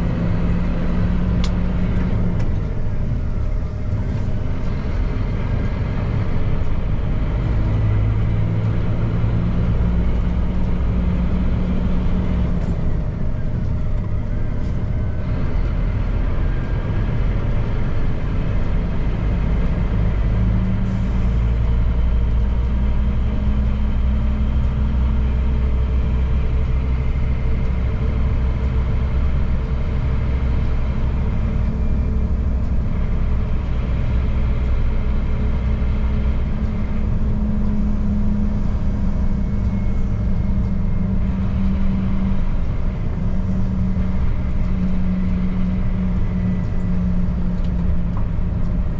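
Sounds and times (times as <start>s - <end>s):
road noise: 0.0s - 48.9s
truck diesel engine running: 0.0s - 48.9s.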